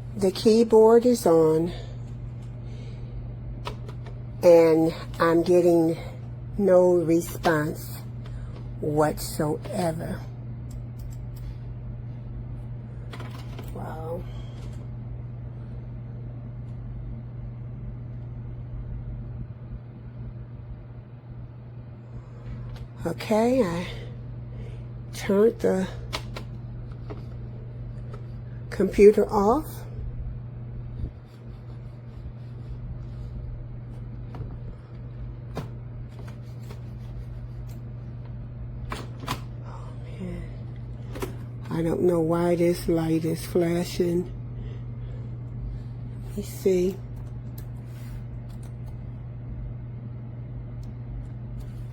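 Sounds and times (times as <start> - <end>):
low hum: 0.0 - 51.9.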